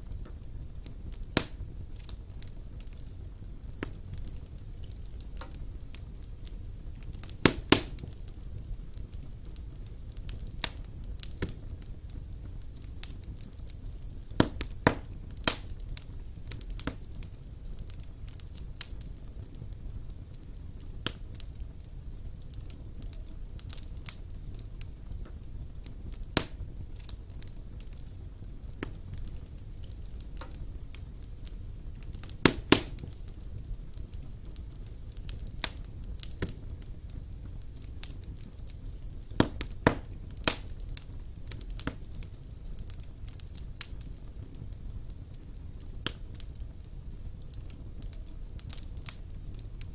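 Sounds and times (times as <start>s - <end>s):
logs crackling and popping: 0.0s - 49.9s
low rumble of flames: 0.0s - 49.9s.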